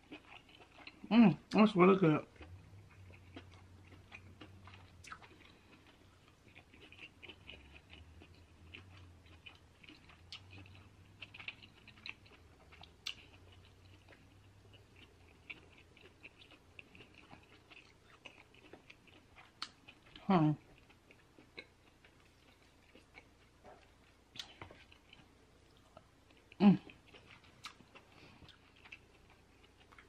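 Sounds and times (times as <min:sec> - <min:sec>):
chewing: 0:00.0 - 0:01.5, 0:02.1 - 0:30.0.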